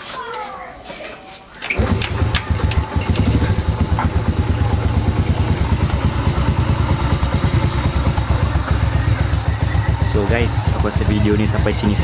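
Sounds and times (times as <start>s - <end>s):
motorcycle engine idling: 1.8s - 12.0s.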